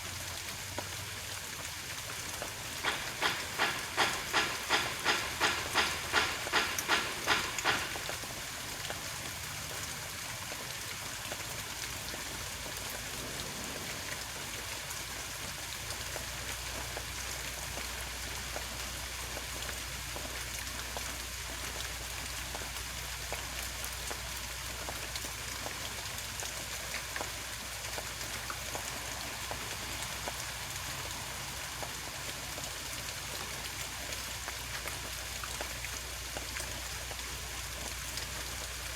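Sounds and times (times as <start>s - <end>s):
steady hiss: 2.0s - 9.6s, 12.1s - 38.9s.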